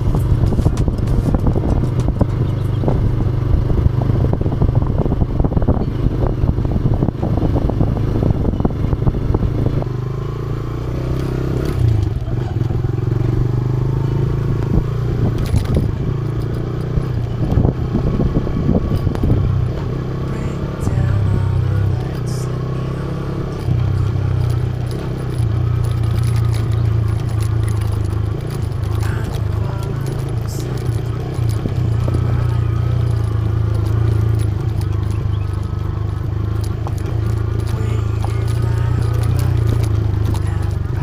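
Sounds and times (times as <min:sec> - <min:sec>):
motorcycle engine running: 0:00.0 - 0:41.0
motorcycle rattling over rough trail: 0:00.0 - 0:41.0.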